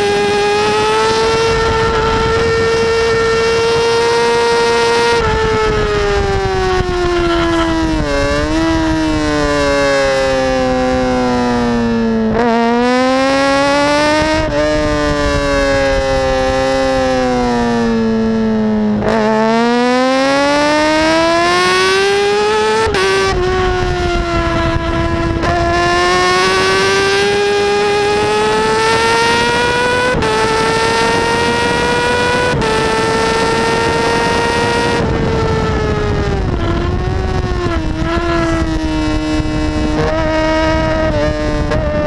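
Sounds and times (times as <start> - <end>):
motorcycle engine revving: 0.0 - 42.0
wind rushing: 0.0 - 42.0.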